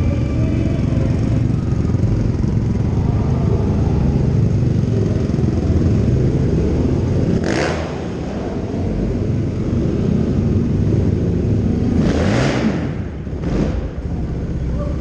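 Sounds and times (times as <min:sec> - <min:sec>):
quad engines revving: 0:00.0 - 0:15.0.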